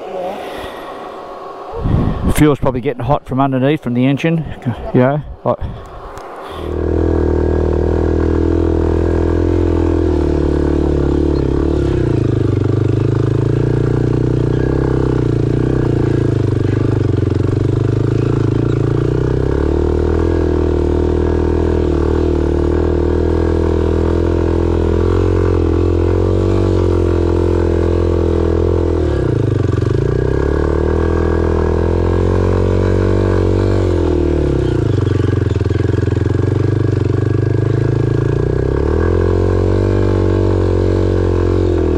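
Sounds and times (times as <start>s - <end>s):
motorcycle engine running: 6.2s - 41.9s.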